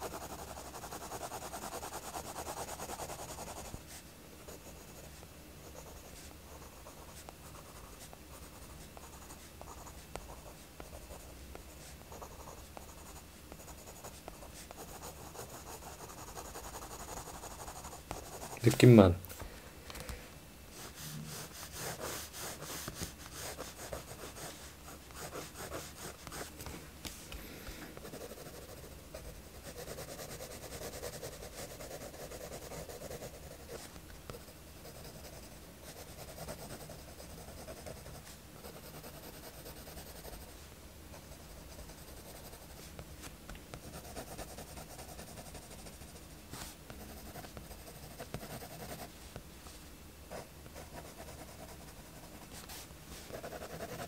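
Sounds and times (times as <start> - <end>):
pencil scratching on paper: 0.0 - 18.6, 20.8 - 26.5, 28.0 - 40.5, 41.1 - 43.0, 43.8 - 49.1, 50.3 - 54.0.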